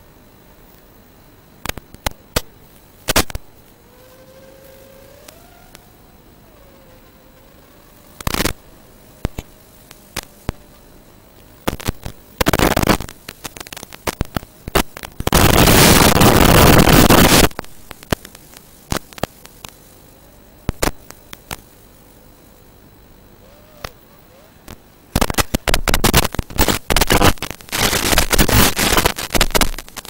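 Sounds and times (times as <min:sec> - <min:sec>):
loud white noise static: 0:00.0 - 0:30.0
static crackles: 0:00.0 - 0:30.0
video link static hiss: 0:00.0 - 0:30.0.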